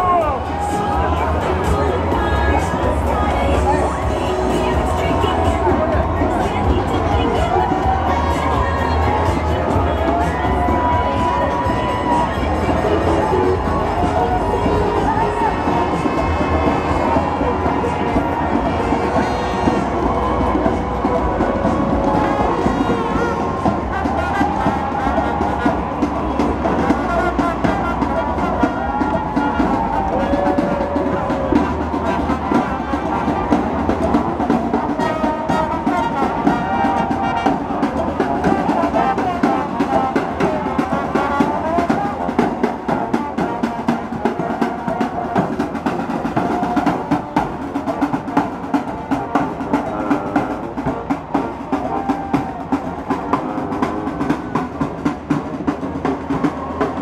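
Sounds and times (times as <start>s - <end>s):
marching band playing: 0.0s - 57.0s
snare and bass drums: 0.0s - 57.0s.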